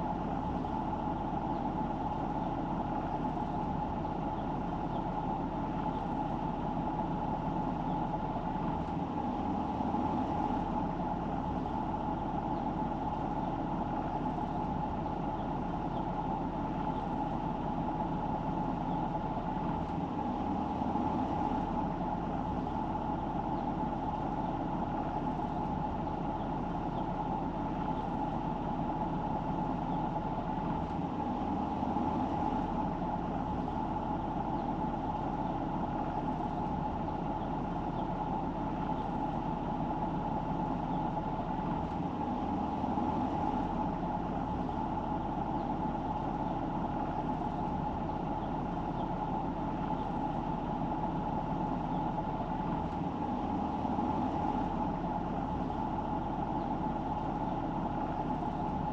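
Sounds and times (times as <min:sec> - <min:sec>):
car engine: 0:00.0 - 0:58.9
road noise: 0:00.0 - 0:58.9.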